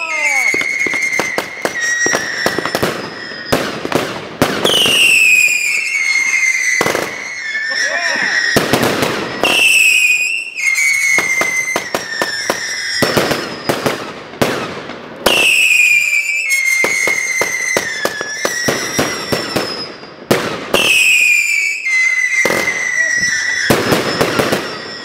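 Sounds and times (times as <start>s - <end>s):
firework whistles dropping in pitch: 0.0s - 14.7s, 15.3s - 25.0s
firework cracks and bangs: 0.0s - 25.0s.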